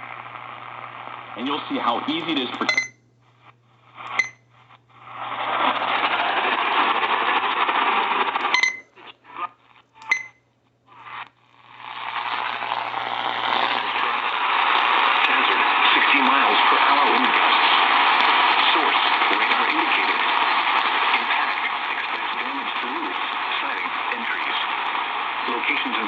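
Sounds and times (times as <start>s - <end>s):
radio static hiss: 0.0s - 10.1s, 10.8s - 26.0s.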